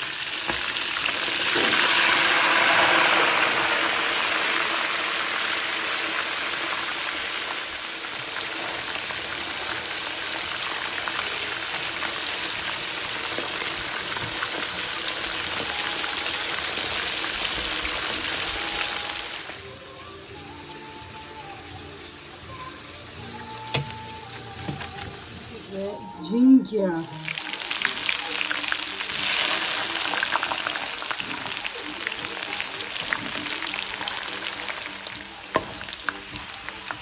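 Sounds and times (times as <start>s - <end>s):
hot oil sizzling: 0.0s - 25.8s, 27.0s - 37.0s.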